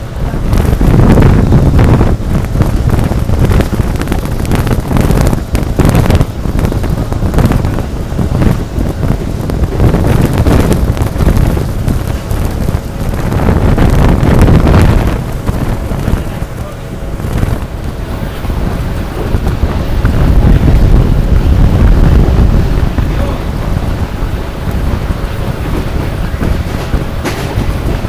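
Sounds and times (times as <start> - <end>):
moving train rumble: 0.0 - 28.0
wind buffeting microphone: 0.0 - 28.0.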